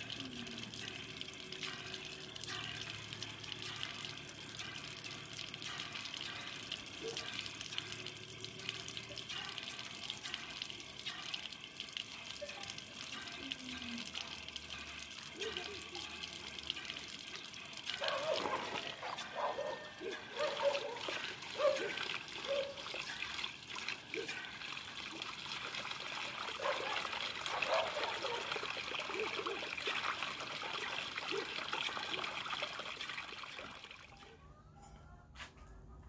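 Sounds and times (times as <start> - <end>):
water running into plastic basin: 0.0 - 34.2.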